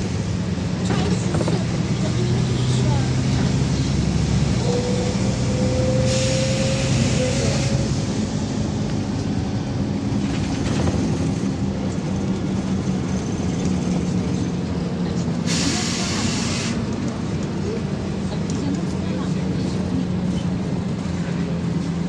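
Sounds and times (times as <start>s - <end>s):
bus engine and drivetrain hum: 0.0s - 22.0s
road noise: 0.0s - 22.0s.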